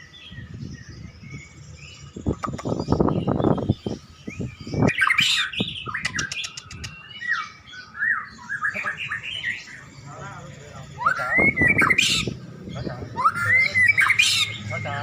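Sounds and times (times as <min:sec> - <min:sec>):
bird singing whistles: 0:00.0 - 0:12.4, 0:13.0 - 0:15.0
sharp ticking bird notes: 0:00.0 - 0:15.0.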